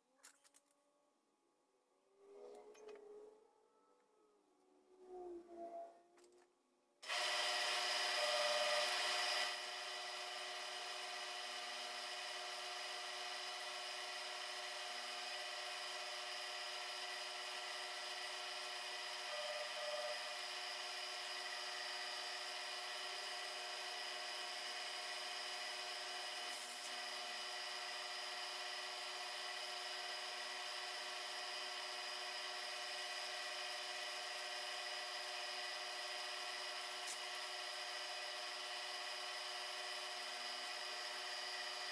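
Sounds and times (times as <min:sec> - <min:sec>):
milling machine spindle whine: 0:07.0 - 0:41.9.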